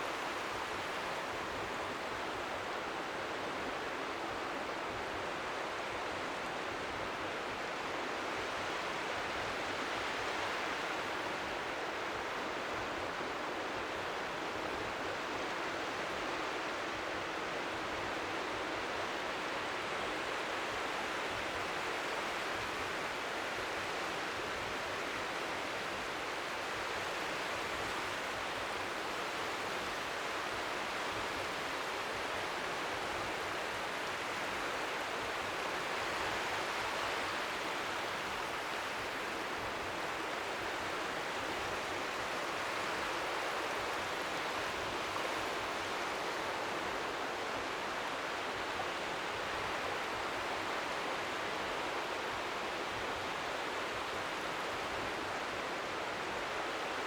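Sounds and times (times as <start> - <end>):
waves lapping at shore: 0.0 - 57.0.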